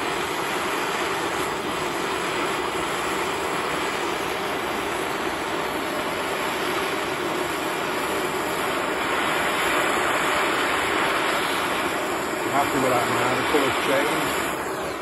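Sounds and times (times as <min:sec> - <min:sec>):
blowtorch flame hissing: 0:00.0 - 0:15.0.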